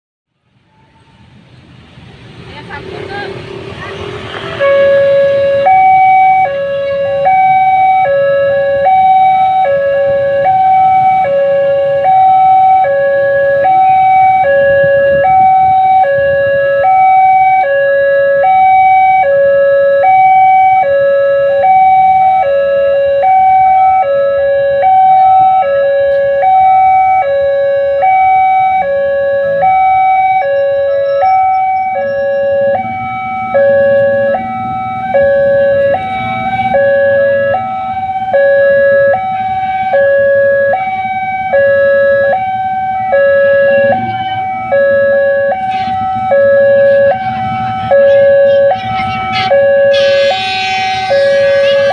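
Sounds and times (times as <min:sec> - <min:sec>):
two-tone level crossing siren: 0:04.0 - 0:51.9.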